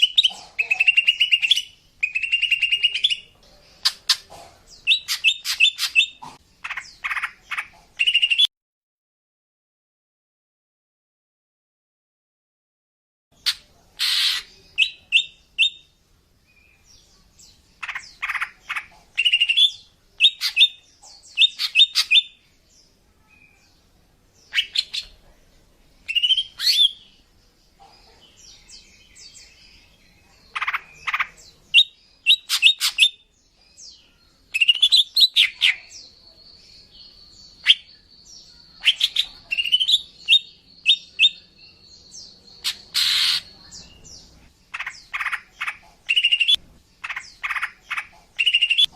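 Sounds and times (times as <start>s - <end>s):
bird chirps and trills: 0.0s - 8.5s, 13.4s - 25.2s, 26.0s - 48.9s.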